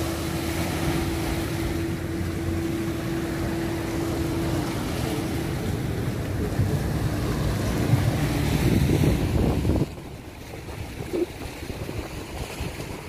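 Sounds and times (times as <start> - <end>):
waves washing among boulders: 0.0 - 13.0
wind buffeting microphone: 0.0 - 13.0.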